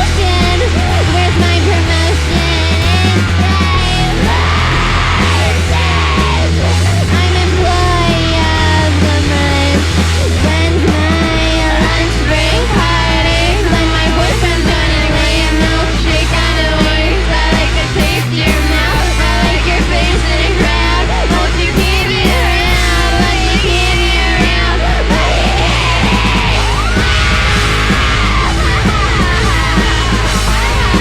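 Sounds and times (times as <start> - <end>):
live rock band playing: 0.0 - 31.0
vocalist singing: 0.0 - 31.0.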